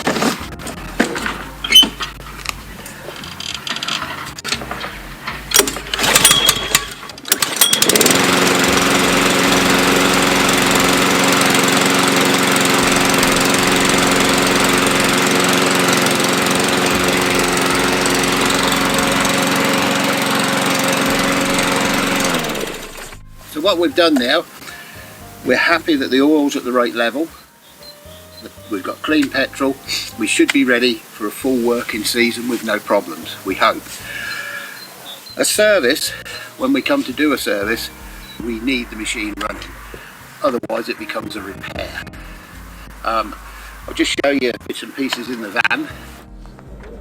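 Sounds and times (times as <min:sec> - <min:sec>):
lawn mower engine running: 0:00.0 - 0:47.0.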